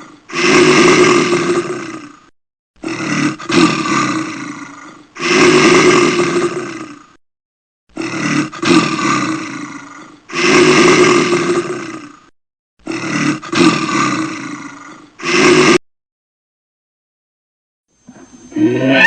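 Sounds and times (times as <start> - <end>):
big cat roaring: 0.3 - 7.2, 7.9 - 15.8, 18.5 - 19.0.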